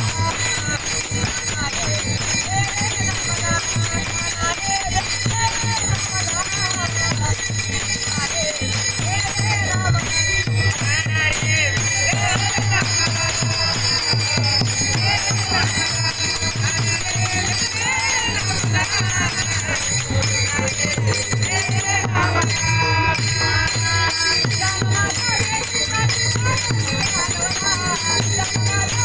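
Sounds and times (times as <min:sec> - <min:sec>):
jingling hand percussion: 0:00.0 - 0:29.0.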